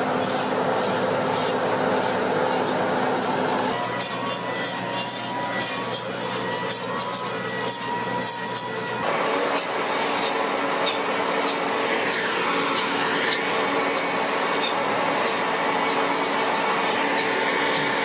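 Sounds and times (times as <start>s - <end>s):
machine running: 0.0s - 18.0s.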